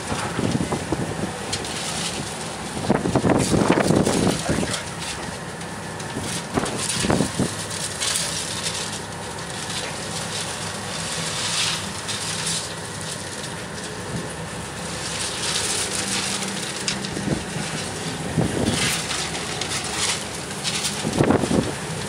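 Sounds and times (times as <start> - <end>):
boat engine droning: 0.0 - 22.0
wind: 0.0 - 22.0.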